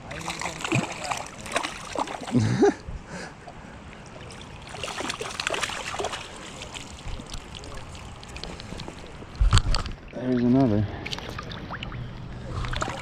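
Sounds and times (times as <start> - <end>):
water splashing: 0.0 - 2.5, 3.4 - 13.0
creek water trickling: 0.0 - 13.0.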